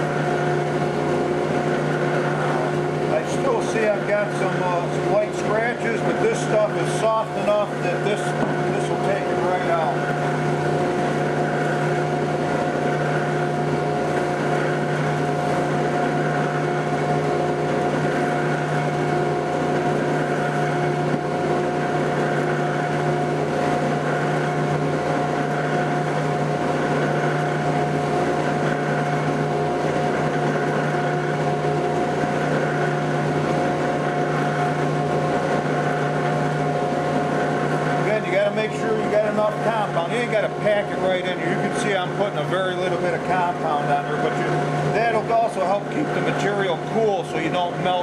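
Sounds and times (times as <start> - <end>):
buffing machine hum and whine: 0.0 - 48.0.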